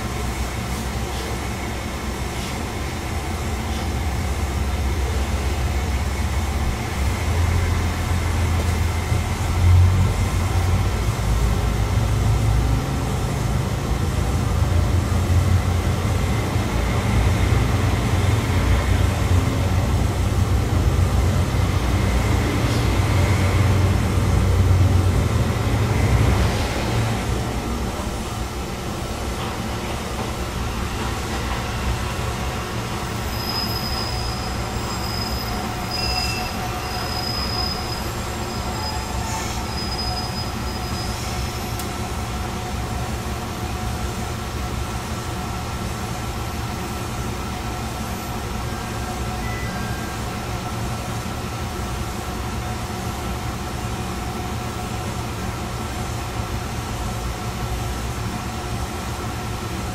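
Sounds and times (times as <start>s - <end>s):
railcar engine and track rumble: 0.0s - 59.9s.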